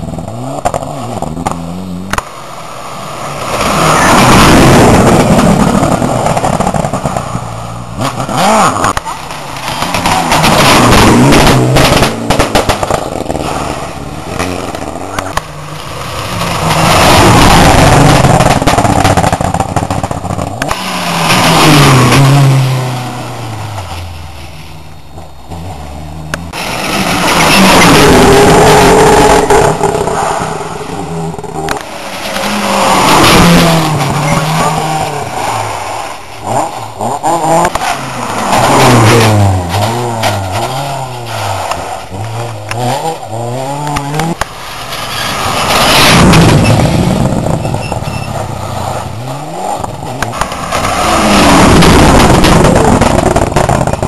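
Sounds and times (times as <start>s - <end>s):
rally cars passing at speed: 0.0s - 54.0s.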